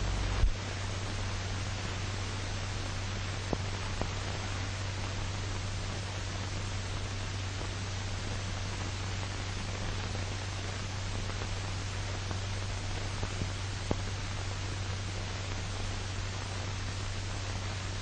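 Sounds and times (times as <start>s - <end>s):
film soundtrack hiss and hum: 0.0s - 18.0s.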